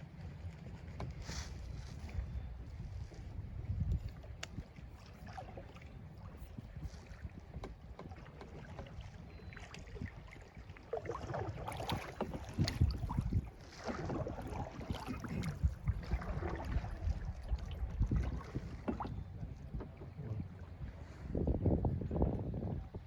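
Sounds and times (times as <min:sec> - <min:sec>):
paddle splashing in water: 0:00.0 - 0:21.4
wind rumble on microphone: 0:00.0 - 0:23.0.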